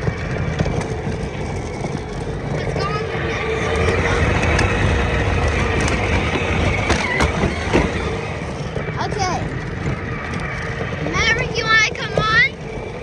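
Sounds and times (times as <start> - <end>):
faint steady whine: 0.0 - 13.0
vehicle rumble and rushing: 0.0 - 13.0.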